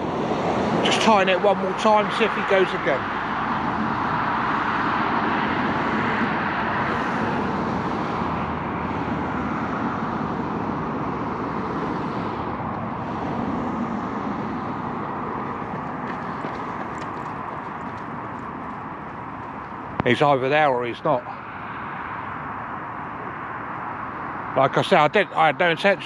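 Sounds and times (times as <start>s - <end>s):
passing road traffic: 0.0s - 26.0s.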